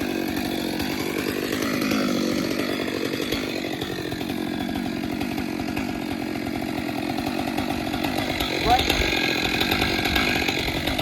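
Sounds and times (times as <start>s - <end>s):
chainsaw cutting into tree: 0.0s - 11.0s.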